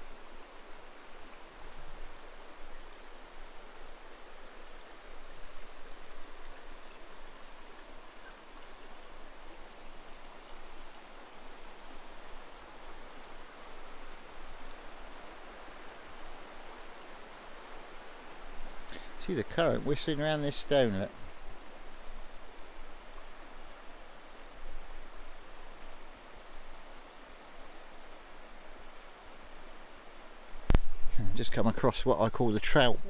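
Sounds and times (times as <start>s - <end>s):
river flowing over rocks: 0.0s - 33.0s.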